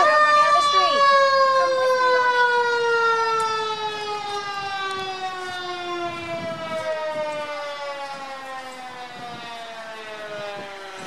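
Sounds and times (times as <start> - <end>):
fire truck siren winding down: 0.0 - 11.0.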